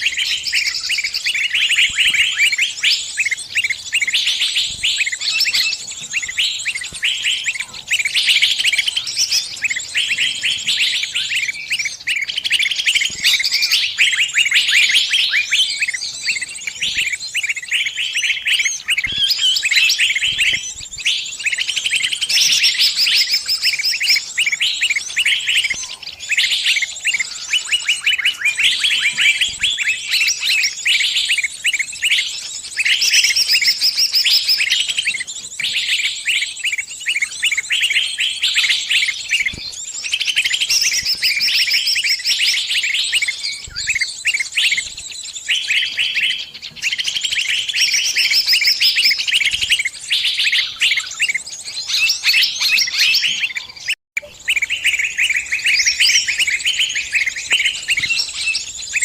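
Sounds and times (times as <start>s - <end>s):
small bird distress chirps: 0.0s - 59.0s.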